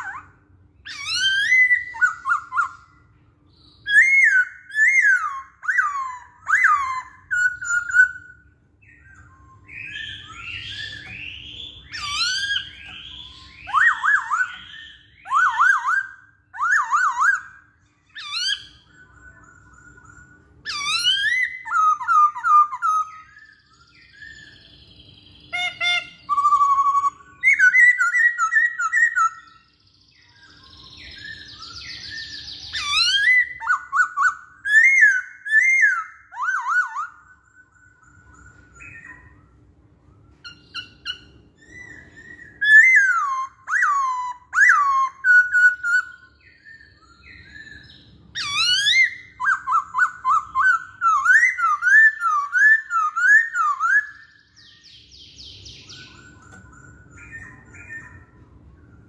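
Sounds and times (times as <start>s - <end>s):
bird whistled song: 0.0s - 59.0s.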